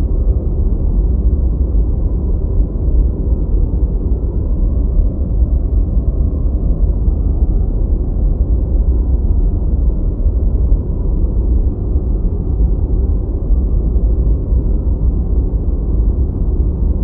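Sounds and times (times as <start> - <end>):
deep white noise: 0.0 - 17.0.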